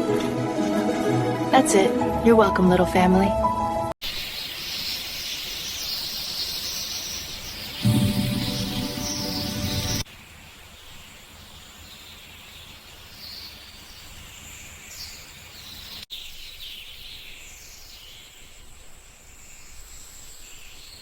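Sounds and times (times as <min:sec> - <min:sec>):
small birds chirping: 0:04.0 - 0:21.0.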